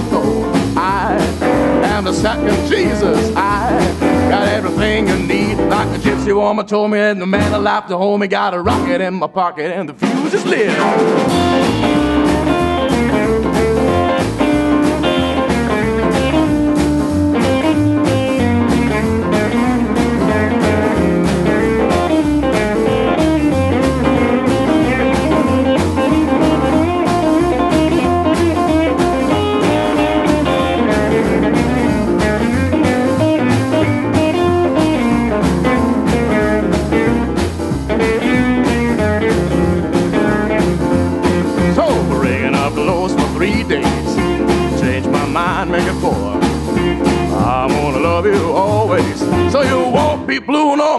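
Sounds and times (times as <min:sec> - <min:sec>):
rockabilly band instrumental: 0:00.0 - 0:50.9.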